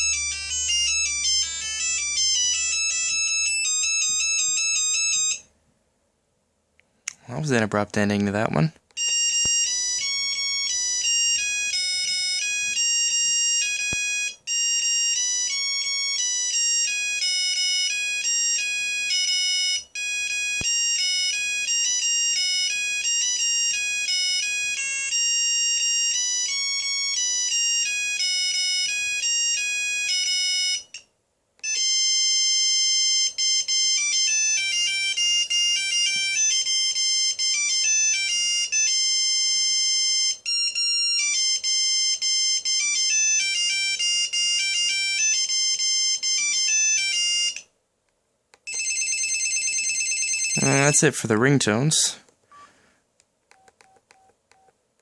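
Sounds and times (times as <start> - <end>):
electronic phone ringtone melodies: 0.0 - 5.5, 9.0 - 47.7, 48.7 - 51.1, 52.5 - 52.7.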